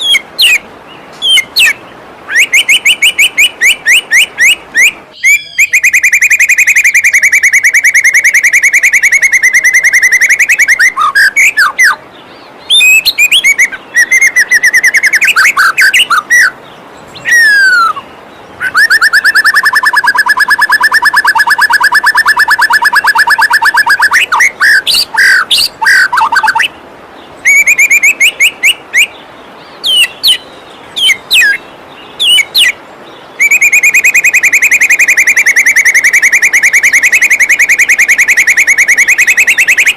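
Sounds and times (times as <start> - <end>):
bird singing trills and whistles: 0.0 - 26.8, 27.4 - 39.9
falling water rushing: 0.0 - 39.9.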